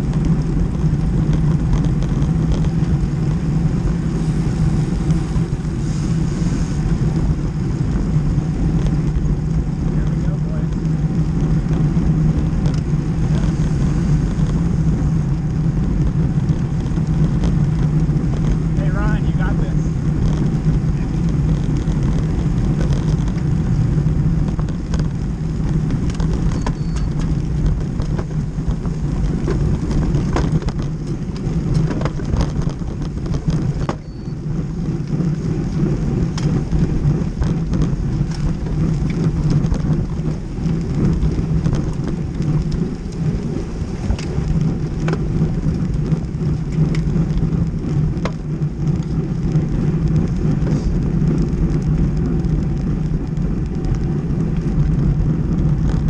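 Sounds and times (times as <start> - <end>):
tyre noise on road: 0.0 - 56.0
wind buffeting microphone: 0.0 - 56.0.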